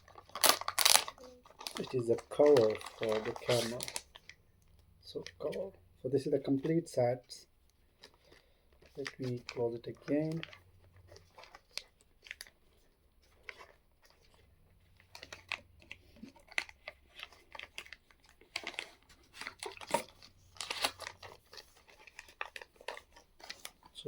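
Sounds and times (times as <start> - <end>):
packaging rustling: 0.0 - 7.0, 7.6 - 24.0.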